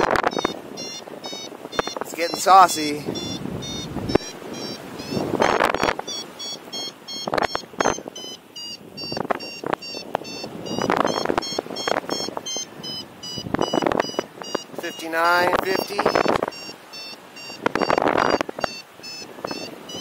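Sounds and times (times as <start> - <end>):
variometer beeping rapidly: 0.0 - 20.0
wind buffeting microphone: 0.0 - 20.0.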